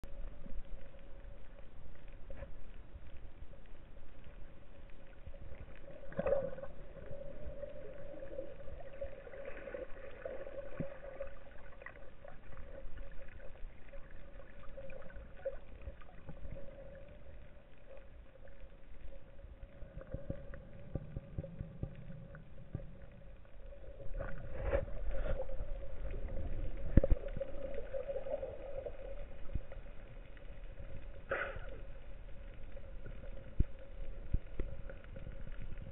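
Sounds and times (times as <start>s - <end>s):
steady underwater hum: 0.0s - 35.9s.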